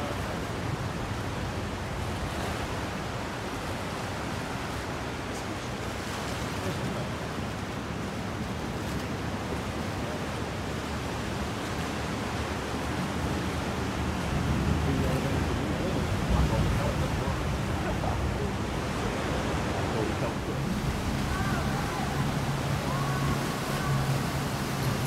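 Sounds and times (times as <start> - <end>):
sea waves washing in a cave: 0.0 - 25.0.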